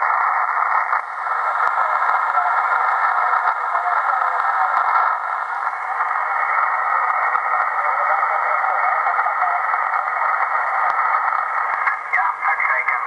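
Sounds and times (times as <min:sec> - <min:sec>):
radio receiver static hiss: 0:00.0 - 0:13.0.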